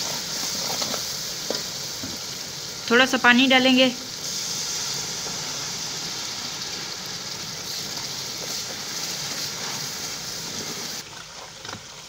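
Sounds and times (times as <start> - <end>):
sauce sizzling in a pot: 0.0 - 11.0.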